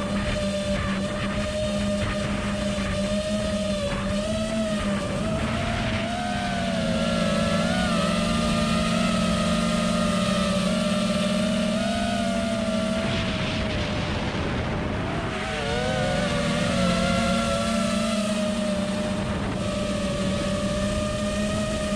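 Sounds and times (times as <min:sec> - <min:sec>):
quadcopter motors whining: 0:00.0 - 0:21.9.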